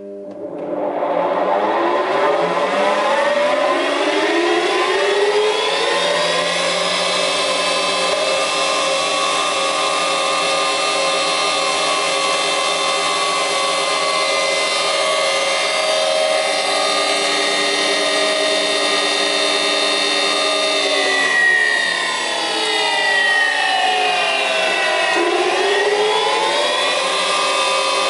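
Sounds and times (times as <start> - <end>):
spindle moulder motor whine: 1.4 - 28.0.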